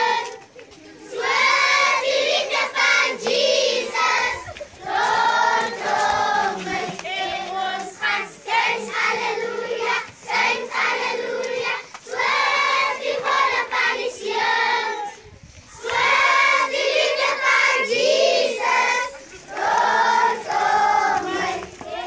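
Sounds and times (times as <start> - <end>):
children singing in unison: 0.0 - 22.0.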